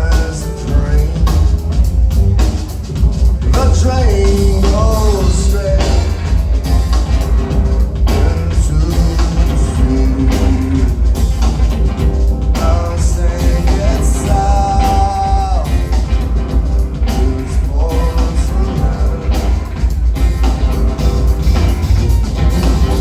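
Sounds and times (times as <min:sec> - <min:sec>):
person singing: 0:00.0 - 0:11.6, 0:12.2 - 0:23.0
live rock band playing: 0:00.0 - 0:23.0.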